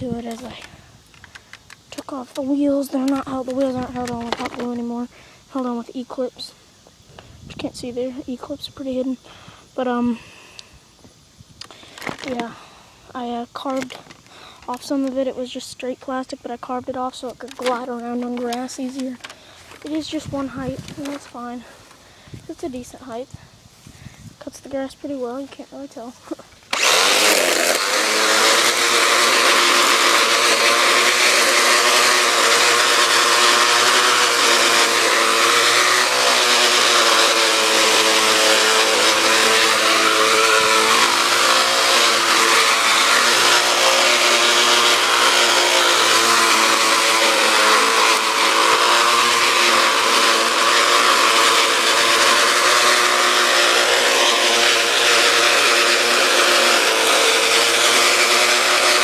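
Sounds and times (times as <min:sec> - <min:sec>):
cutter mowing grass: 0:00.0 - 0:10.8, 0:11.6 - 0:59.0
electric mower whining: 0:00.0 - 0:23.3, 0:24.5 - 0:59.0.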